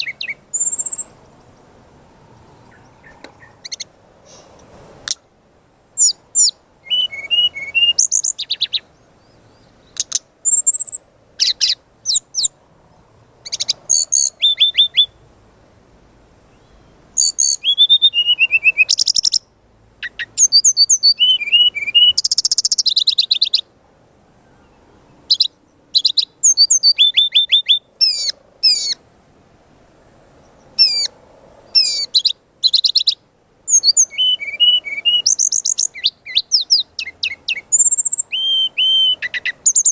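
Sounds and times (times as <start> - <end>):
bird song with chirps and trills: 0.0 - 5.3, 6.0 - 15.3, 16.5 - 23.7, 24.4 - 29.0, 30.1 - 39.9.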